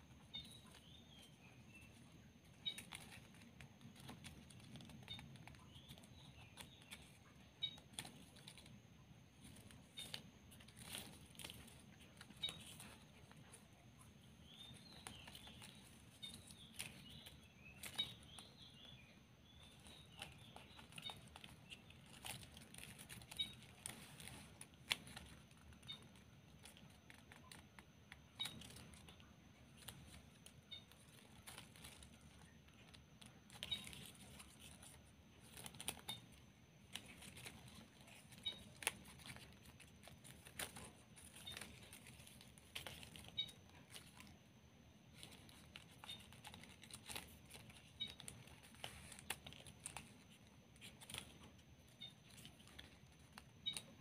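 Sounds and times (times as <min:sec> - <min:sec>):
ribbon rustling and crinkling: 0:00.0 - 0:54.0.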